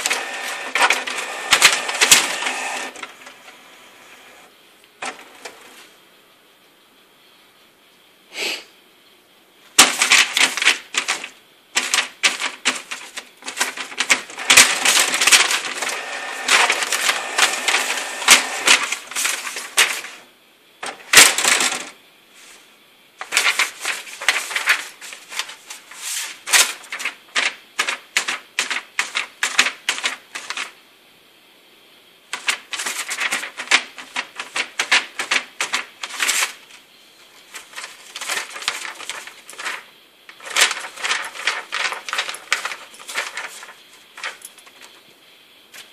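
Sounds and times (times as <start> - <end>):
paper crinkling and crackling: 0.0 - 5.9, 9.8 - 20.2, 20.8 - 22.0, 23.2 - 30.7, 32.4 - 45.1.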